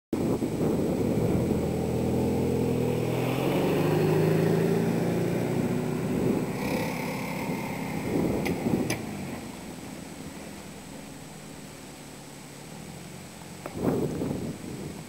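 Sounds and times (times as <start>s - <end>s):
vehicle engine running: 0.2s - 15.0s.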